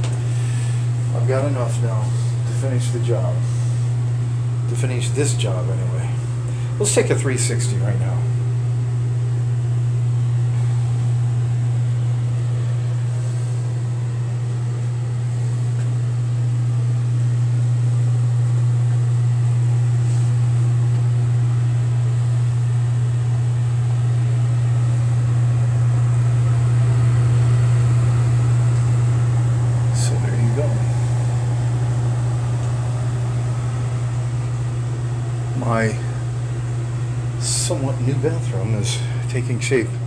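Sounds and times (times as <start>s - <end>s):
electric fan humming: 0.0s - 40.0s.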